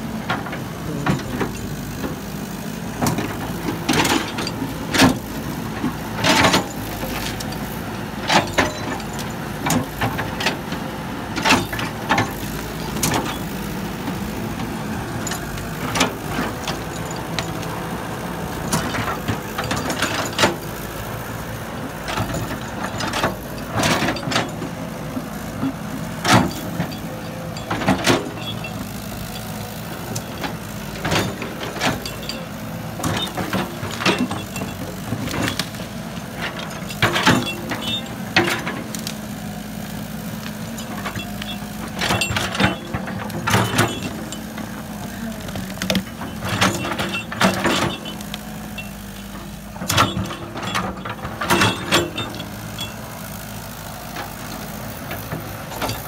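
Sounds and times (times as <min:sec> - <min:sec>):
excavator diesel engine running: 0:00.0 - 0:56.0
sharp clanks and knocks: 0:02.9 - 0:17.7, 0:18.6 - 0:20.7, 0:22.0 - 0:39.2, 0:40.3 - 0:53.1, 0:54.1 - 0:56.0.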